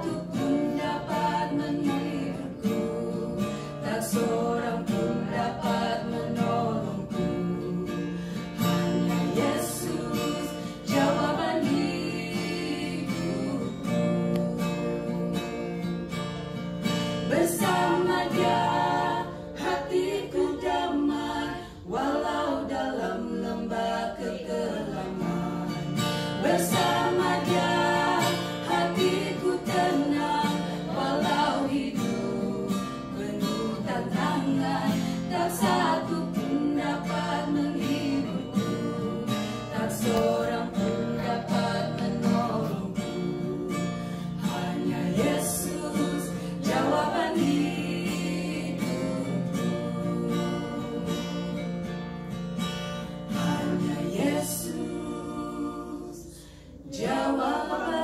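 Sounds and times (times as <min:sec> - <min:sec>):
acoustic guitar strumming: 0:00.0 - 0:58.0
people singing worship song: 0:00.0 - 0:58.0.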